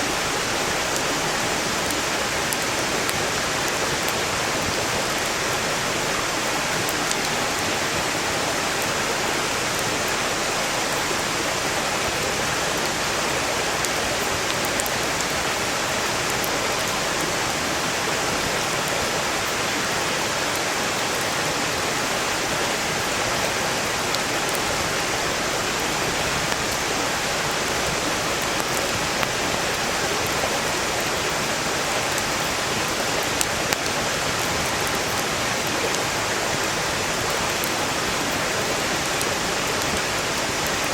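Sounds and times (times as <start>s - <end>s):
firewood crackling and popping: 0.0s - 21.4s, 22.2s - 40.9s
stream rushing: 0.0s - 40.9s.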